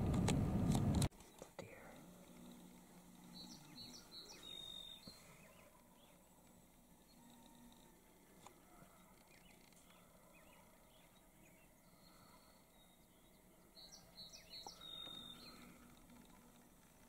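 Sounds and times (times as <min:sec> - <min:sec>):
faint outdoor hiss: 0:00.0 - 0:17.0
faint high bird chirps: 0:01.3 - 0:06.3, 0:07.0 - 0:16.6.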